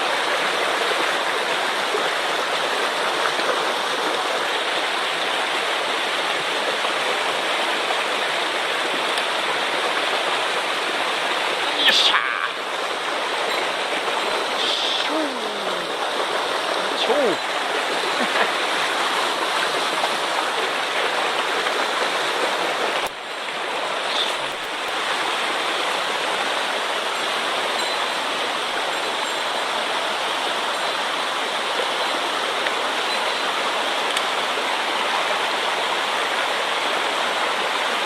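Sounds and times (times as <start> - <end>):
rushing stream water: 0.0 - 38.0.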